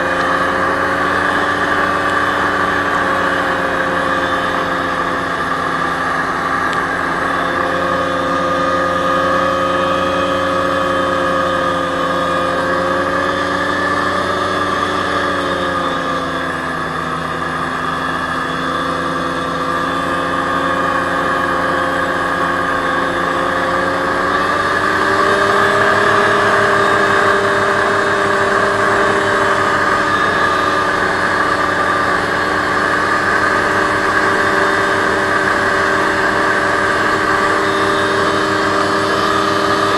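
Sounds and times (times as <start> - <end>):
hovercraft engine and fan running: 0.0 - 39.9.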